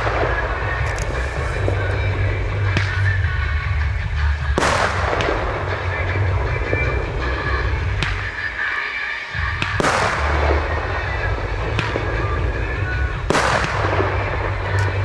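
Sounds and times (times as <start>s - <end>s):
fireworks bangs with crackling: 0.0s - 15.0s.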